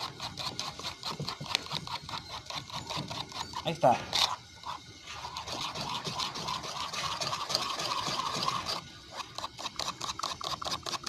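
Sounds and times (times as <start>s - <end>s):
utensil beating batter in bowl: 0.0s - 11.0s.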